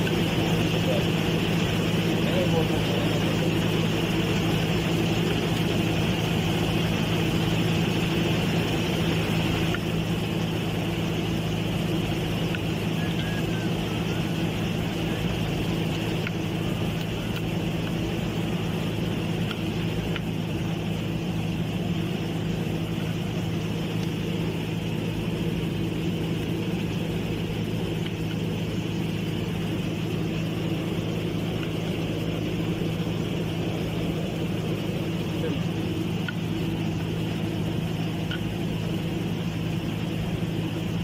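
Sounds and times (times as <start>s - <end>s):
machinery humming: 0.0s - 41.0s.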